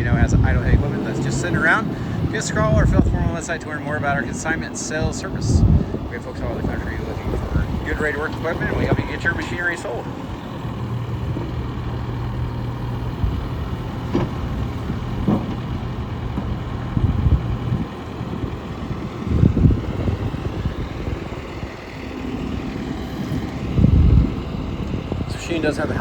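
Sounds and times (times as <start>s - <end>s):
diesel engine idling: 0.0s - 26.0s
low engine rumbles: 0.0s - 26.0s.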